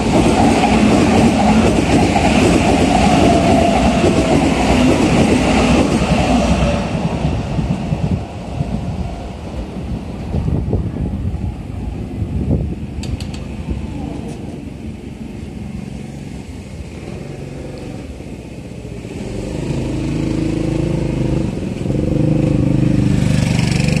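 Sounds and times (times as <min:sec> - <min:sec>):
street noise: 0:00.0 - 0:24.0.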